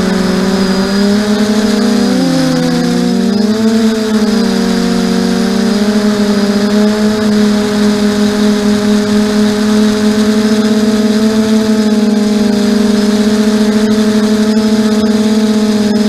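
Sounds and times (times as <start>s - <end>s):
quadcopter motors and propellers humming: 0.0s - 16.0s.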